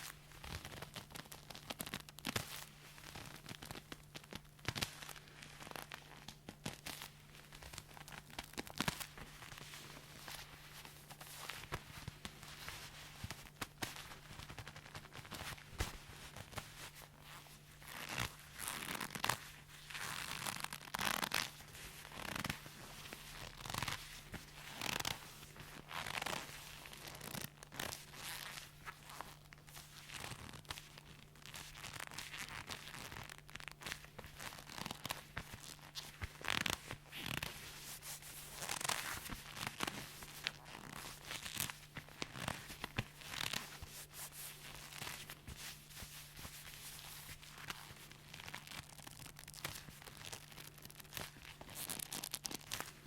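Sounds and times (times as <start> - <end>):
leather creaking and rustling: 0.4 - 53.0.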